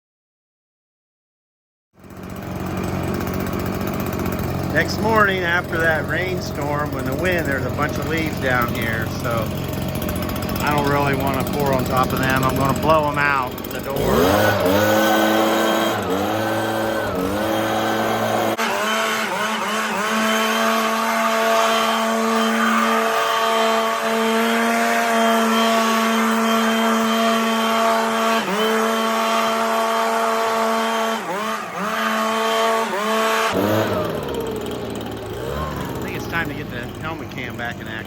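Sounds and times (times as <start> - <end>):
leaf blower running: 2.0 - 38.0.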